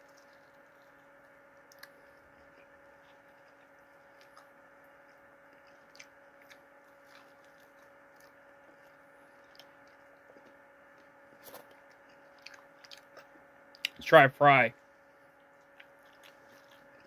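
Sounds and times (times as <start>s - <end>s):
soft chewing mouth clicks: 0.0s - 14.0s, 15.4s - 17.0s
steady low hum: 0.0s - 17.0s.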